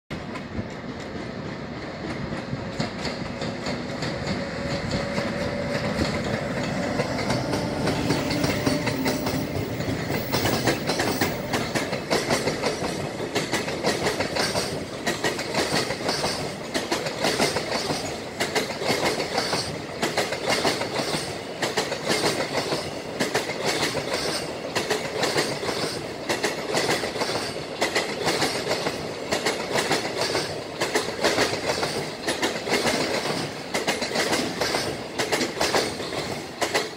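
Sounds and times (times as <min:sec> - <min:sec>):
train rumble: 0:00.1 - 0:36.9
train wheels clickety-clack: 0:00.1 - 0:36.9
electric locomotive whine: 0:00.2 - 0:36.9.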